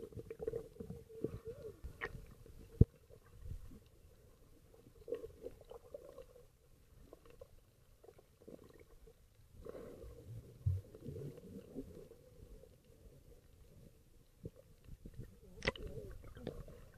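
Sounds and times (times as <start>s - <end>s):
underwater water gurgles: 0.0s - 16.9s.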